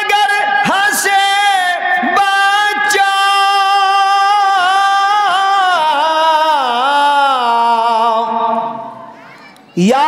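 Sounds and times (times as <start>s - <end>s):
man singing melodic recitation: 0.0s - 9.0s, 9.8s - 10.0s.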